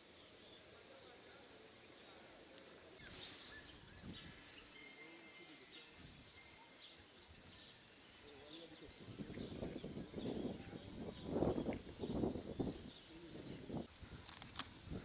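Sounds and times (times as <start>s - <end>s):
faint bird chirps: 0.0s - 13.9s.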